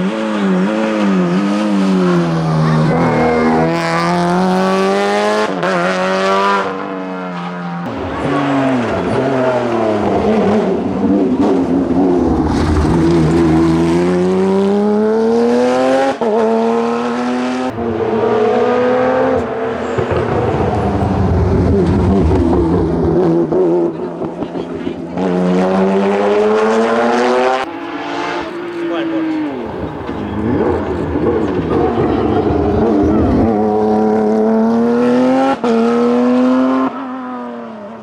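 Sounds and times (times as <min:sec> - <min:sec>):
race car engines at full throttle: 0:00.0 - 0:38.0.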